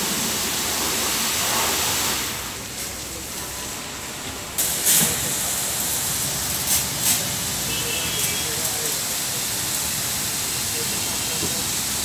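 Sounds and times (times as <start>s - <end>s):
high-pressure water jets spraying: 0.0s - 12.0s.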